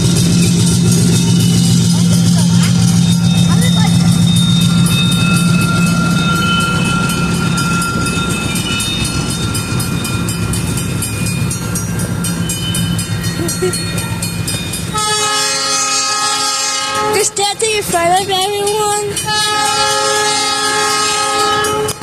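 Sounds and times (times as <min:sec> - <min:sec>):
diesel train engine hum: 0:00.0 - 0:22.0.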